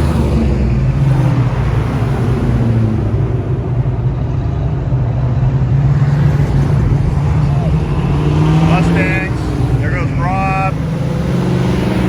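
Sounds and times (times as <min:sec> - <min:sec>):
car engines rumbling past: 0:00.0 - 0:12.0.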